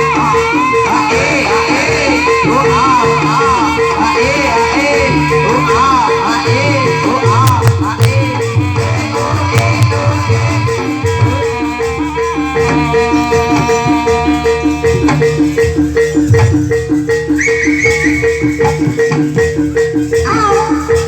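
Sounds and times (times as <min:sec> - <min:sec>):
higher melody line: 0:00.0 - 0:20.2
drums: 0:00.0 - 0:21.0
tuned percussion pattern: 0:00.0 - 0:21.0.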